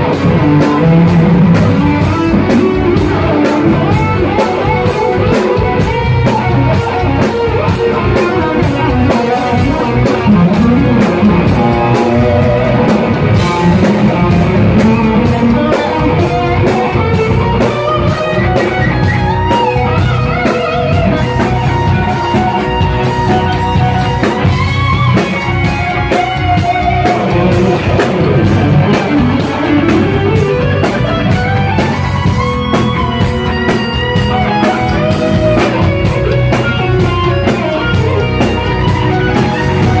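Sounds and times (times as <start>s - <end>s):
drum kit beat with cymbals: 0.0s - 40.0s
electric guitar melody: 0.0s - 40.0s.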